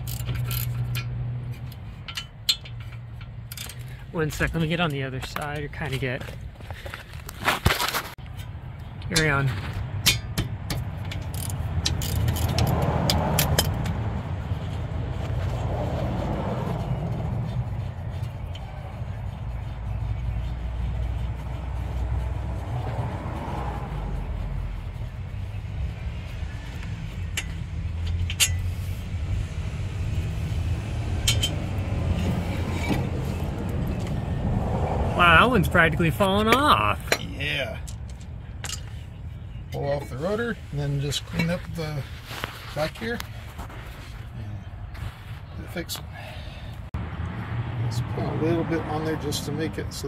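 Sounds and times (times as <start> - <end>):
low vehicle rumble: 8.1 - 50.0.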